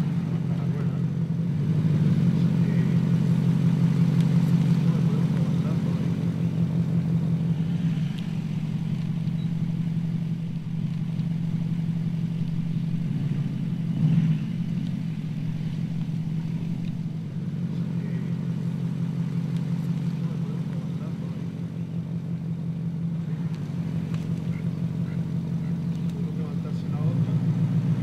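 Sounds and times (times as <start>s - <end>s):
suv engine at low revs: 0.0s - 28.0s.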